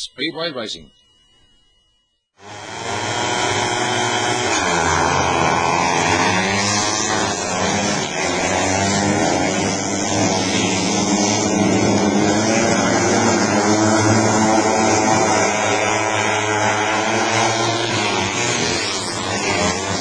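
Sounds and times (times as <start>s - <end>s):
motorcycle engines racing: 2.4s - 20.0s.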